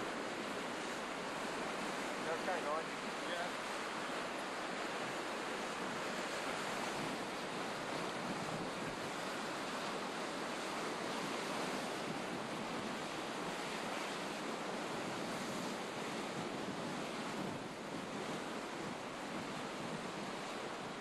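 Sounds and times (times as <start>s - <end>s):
sea rushing: 0.0s - 21.0s
wind: 0.0s - 21.0s.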